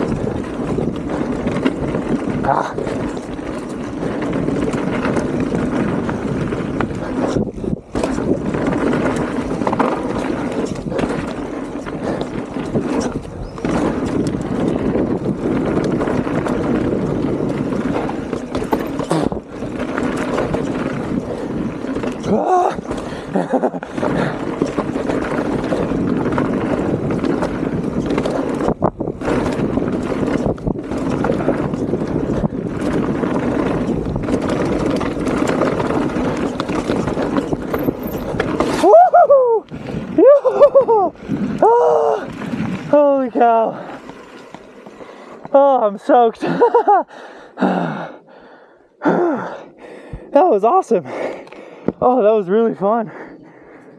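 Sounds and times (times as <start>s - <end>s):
bike tyre noise on dirt: 0.0s - 53.9s.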